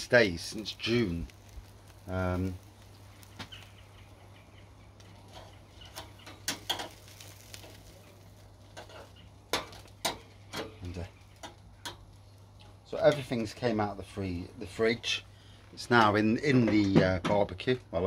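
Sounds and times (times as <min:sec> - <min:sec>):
grill crackling: 0:00.0 - 0:18.0.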